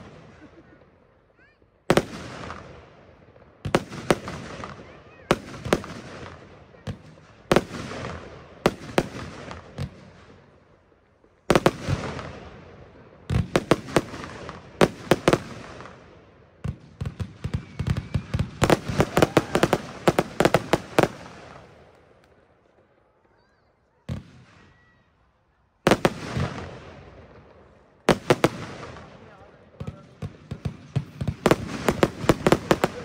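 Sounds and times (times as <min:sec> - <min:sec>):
crackle of firework bursts: 0:00.0 - 0:33.0
firework shots: 0:00.0 - 0:33.0.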